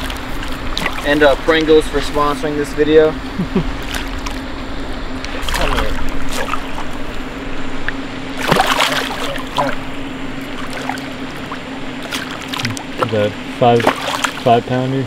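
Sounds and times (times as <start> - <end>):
water splashing: 0.0 - 3.0, 3.6 - 14.9
steady low hum: 0.0 - 15.0.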